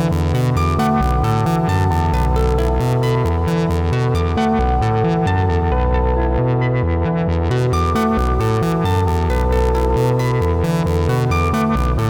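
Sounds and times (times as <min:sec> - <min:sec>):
sequenced synthesizer bass line: 0:00.0 - 0:12.0.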